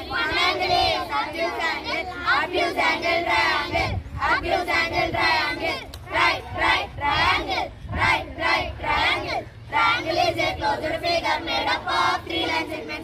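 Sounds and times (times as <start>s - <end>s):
boys chanting in chorus: 0.0s - 13.0s.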